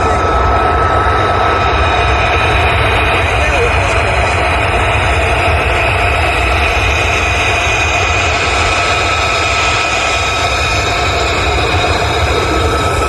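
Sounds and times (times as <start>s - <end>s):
jet engine whine and rumble: 0.0s - 13.0s.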